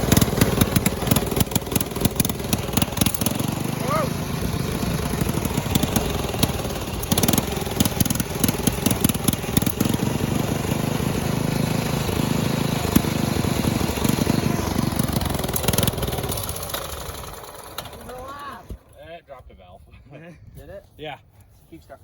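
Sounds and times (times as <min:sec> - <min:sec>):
lawnmower engine running unevenly: 0:00.0 - 0:19.1.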